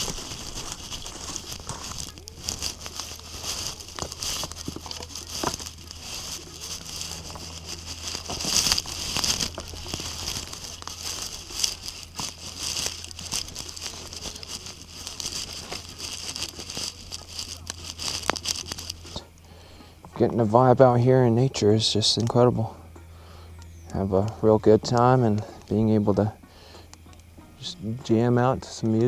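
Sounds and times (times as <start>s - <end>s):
fire hiss: 0.0s - 23.5s
campfire crackling and popping: 0.0s - 29.0s.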